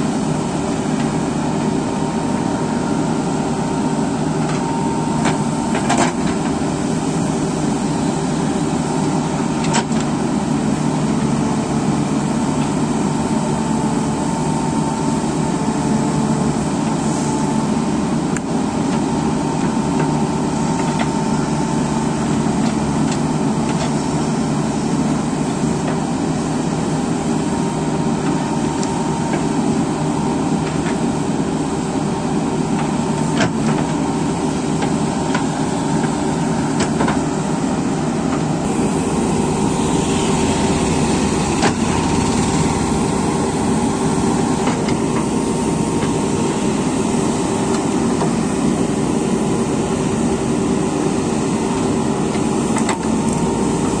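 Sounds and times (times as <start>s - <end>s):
backhoe diesel engines running: 0.0s - 54.0s.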